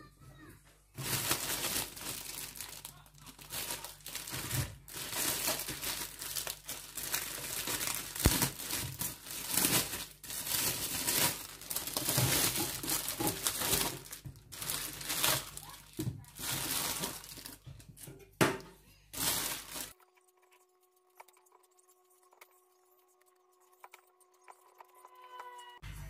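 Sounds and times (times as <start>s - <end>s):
plastic bag crinkling: 1.0s - 18.0s, 19.1s - 25.0s.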